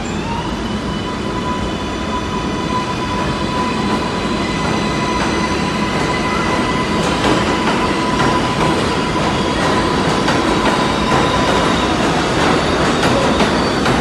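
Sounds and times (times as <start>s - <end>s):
train propulsion whine: 0.0s - 14.0s
train wheels rumbling on rails: 0.0s - 14.0s.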